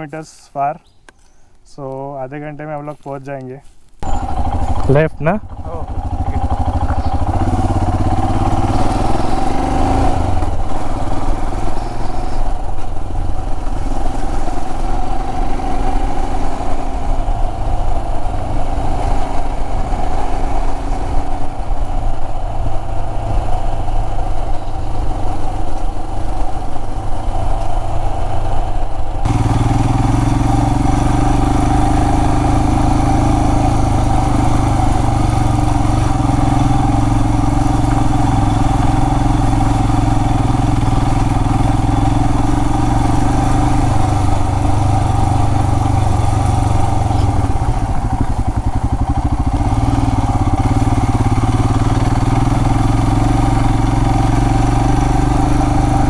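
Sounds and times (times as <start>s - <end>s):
motorcycle engine running: 4.0s - 56.0s.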